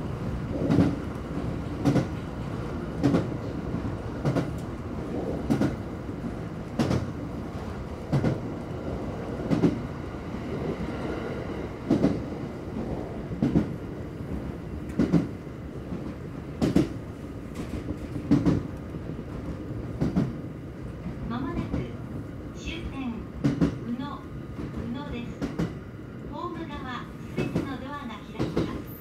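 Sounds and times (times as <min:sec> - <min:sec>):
train rumbling along: 0:00.0 - 0:29.0.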